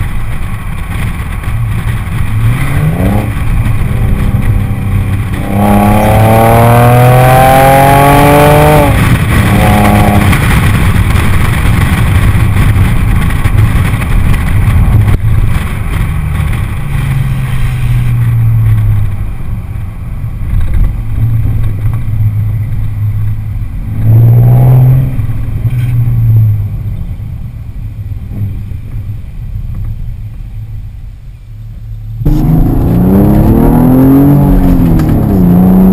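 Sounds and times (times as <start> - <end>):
car exhaust revving: 0.0 - 26.8, 32.0 - 35.9.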